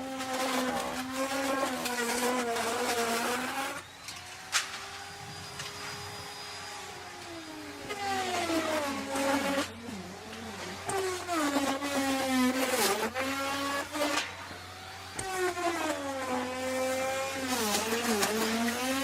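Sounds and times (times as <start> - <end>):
wood router cutting wood: 0.0 - 19.0.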